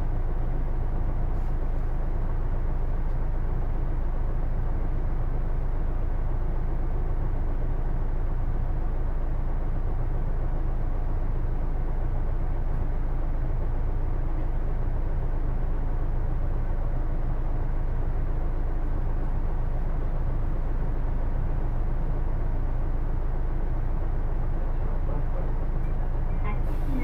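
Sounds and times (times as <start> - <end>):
bus diesel engine idling: 0.0 - 27.0.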